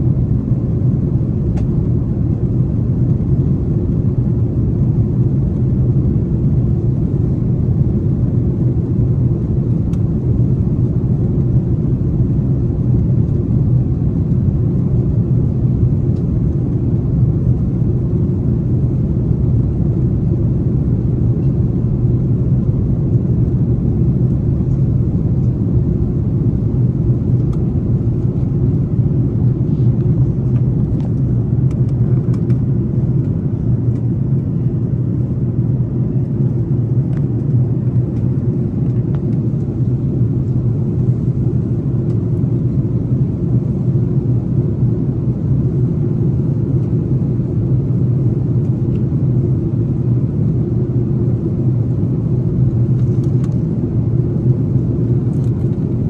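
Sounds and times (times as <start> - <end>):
jet engine and airflow drone: 0.0 - 56.0.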